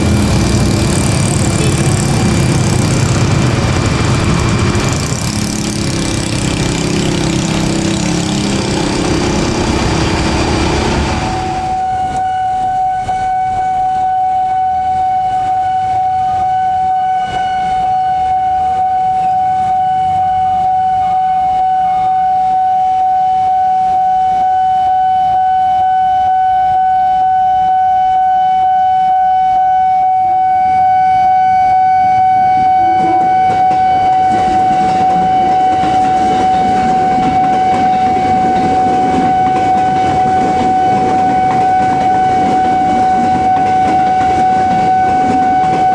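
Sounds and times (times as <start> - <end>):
approaching train rumble: 0.0 - 24.4, 30.4 - 45.9
level crossing alarm tone: 0.0 - 45.9.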